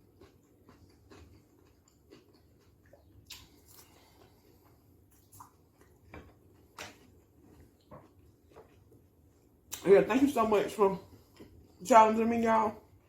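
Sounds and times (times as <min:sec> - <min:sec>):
chewing and crunching: 0:00.0 - 0:11.9
low room hum: 0:00.0 - 0:13.0.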